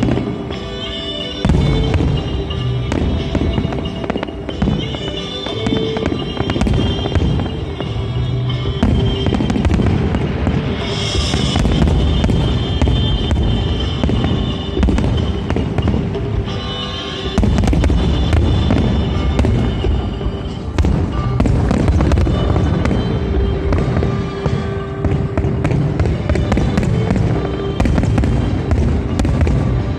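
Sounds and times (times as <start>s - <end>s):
fireworks bangs and crackling: 0.0s - 29.9s
show music: 0.0s - 29.9s.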